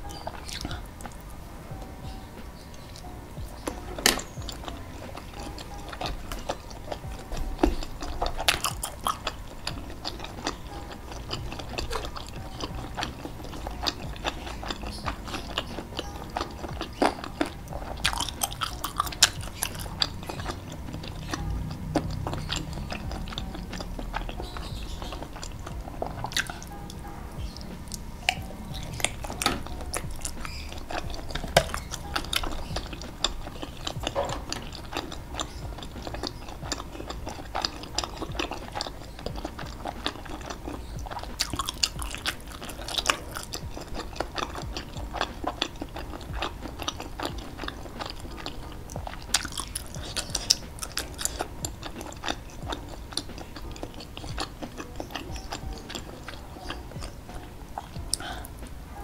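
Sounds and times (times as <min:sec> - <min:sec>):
chewing and wet mouth sounds: 0:00.0 - 0:59.0.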